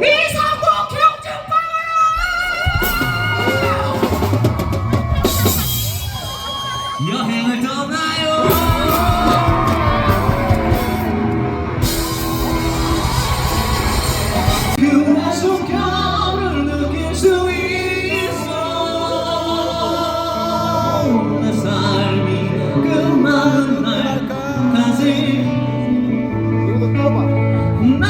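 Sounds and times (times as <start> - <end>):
person singing and calling out: 0.0 - 12.6, 14.5 - 28.0
live rock band playing: 2.5 - 28.0.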